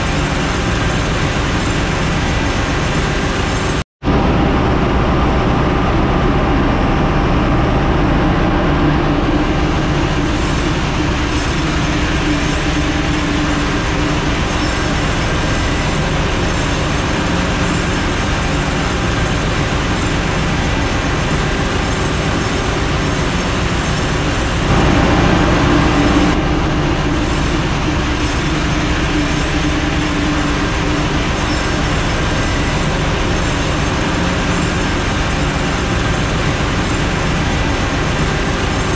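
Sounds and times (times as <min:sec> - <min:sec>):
ship engine room machinery drone: 0:00.0 - 0:38.9.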